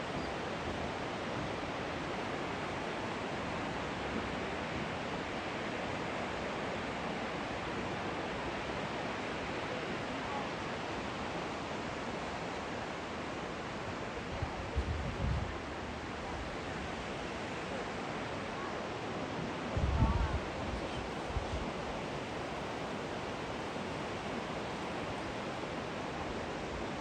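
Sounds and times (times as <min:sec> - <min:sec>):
rushing flowing water: 0:00.0 - 0:27.0.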